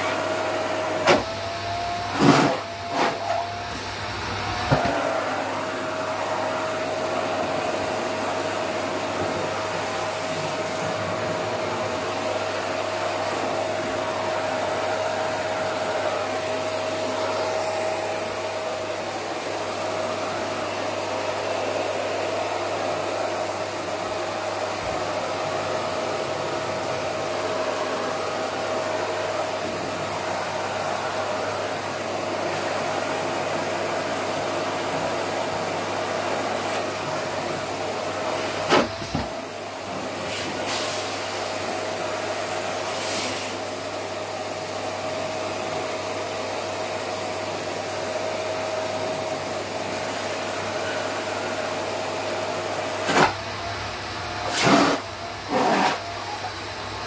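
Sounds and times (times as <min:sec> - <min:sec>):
vacuum cleaner whine: 0:00.0 - 0:57.0.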